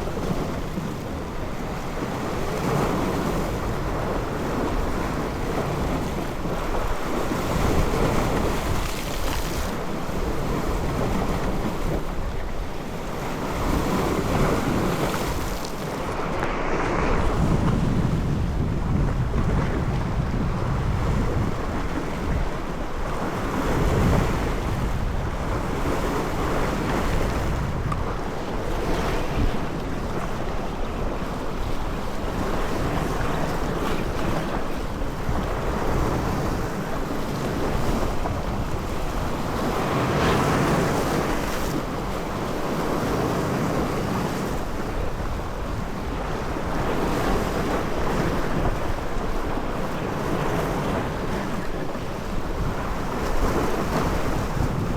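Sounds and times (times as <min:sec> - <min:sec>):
sea waves: 0:00.0 - 0:54.9
wind buffeting microphone: 0:00.0 - 0:54.9.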